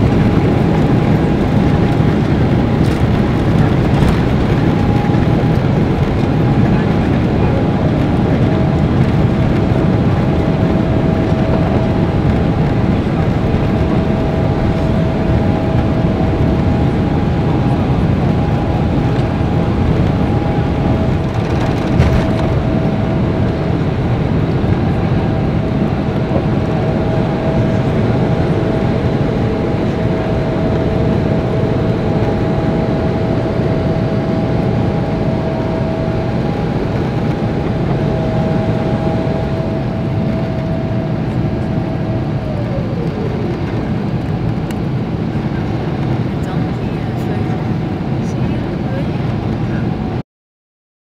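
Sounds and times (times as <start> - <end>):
jet engines at takeoff thrust: 0.0 - 50.2
steady engine whine: 0.0 - 50.2
steady rushing noise: 0.0 - 50.2.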